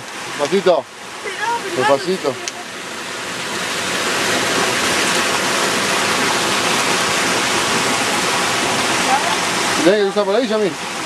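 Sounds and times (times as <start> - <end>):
stream splashing over rocks: 0.0 - 11.0.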